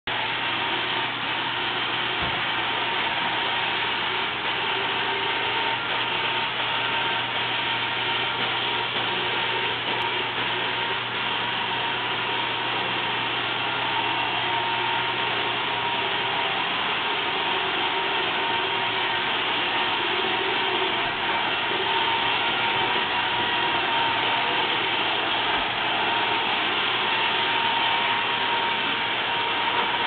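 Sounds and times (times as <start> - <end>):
thin high whine: 0.1 - 30.0.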